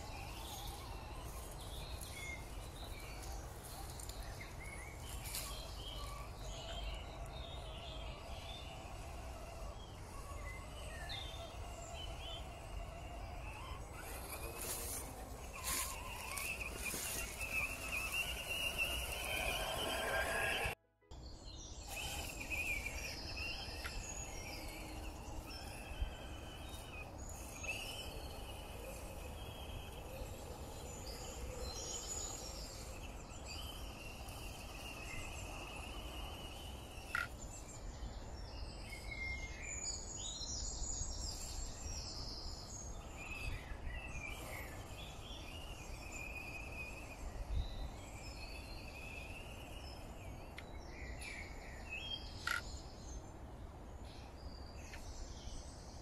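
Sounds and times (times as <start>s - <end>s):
small birds chirping and singing: 0.0s - 56.0s.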